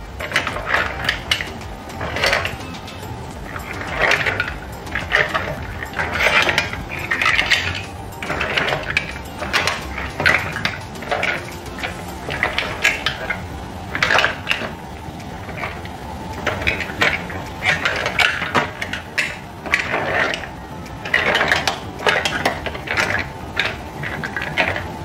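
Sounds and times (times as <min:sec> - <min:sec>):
mussel shells clattering in pan: 0:00.1 - 0:25.0.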